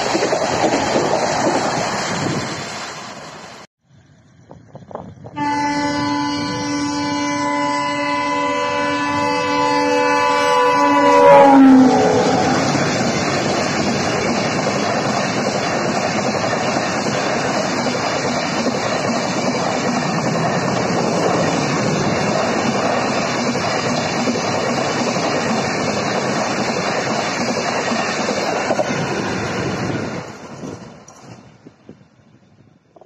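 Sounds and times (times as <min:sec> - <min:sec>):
train wheels roaring on rail: 0:00.0 - 0:33.0.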